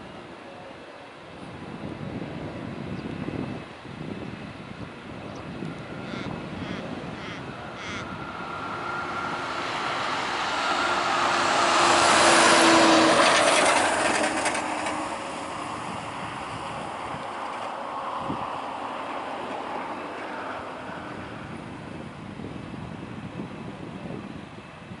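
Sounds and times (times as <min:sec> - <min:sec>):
jet engines roaring on landing: 0:00.0 - 0:24.9.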